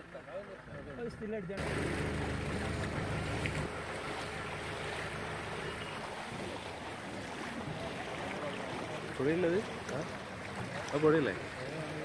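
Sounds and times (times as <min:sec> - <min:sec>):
boat motor running: 0:00.0 - 0:12.0
water wash: 0:00.1 - 0:12.0.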